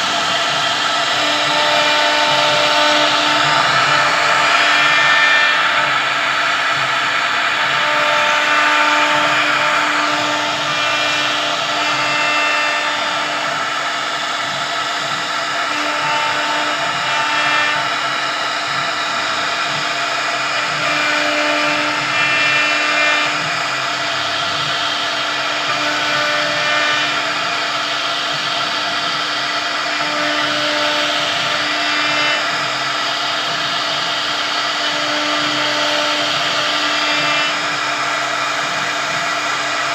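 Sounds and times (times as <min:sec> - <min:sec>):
router whining while cutting wood: 0:00.0 - 0:39.9.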